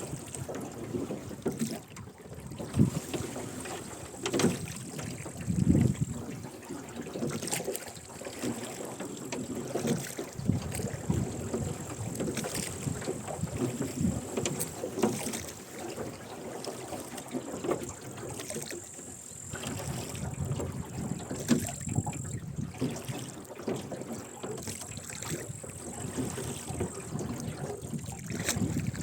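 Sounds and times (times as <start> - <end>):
oars splashing in water: 0.0 - 29.0.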